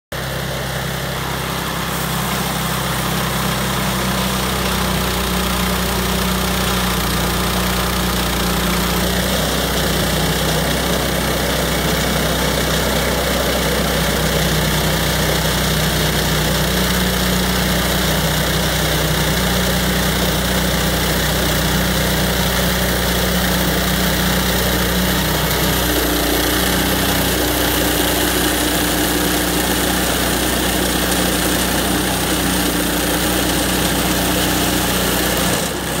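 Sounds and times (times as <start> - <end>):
band saw cutting log: 0.1 - 36.0
gasoline engine running: 0.1 - 36.0.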